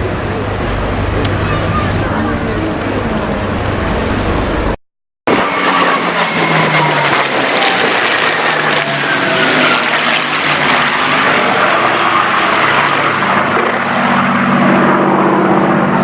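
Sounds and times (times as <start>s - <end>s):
aircraft piston engines droning: 0.0s - 16.0s
high whine falling in pitch: 0.0s - 16.0s.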